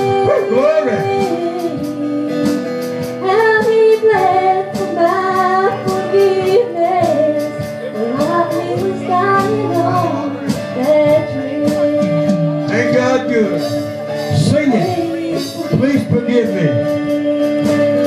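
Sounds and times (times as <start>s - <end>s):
acoustic guitar: 0.0s - 18.0s
woman singing gospel: 0.0s - 18.0s.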